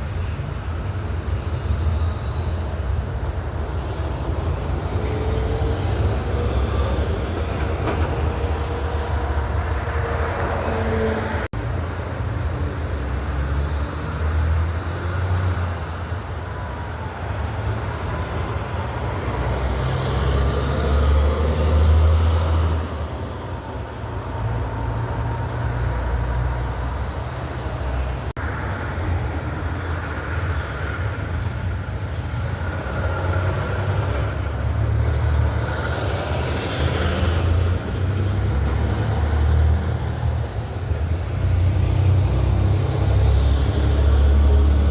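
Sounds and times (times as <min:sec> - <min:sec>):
trucks and cars passing: 0:00.0 - 0:44.9.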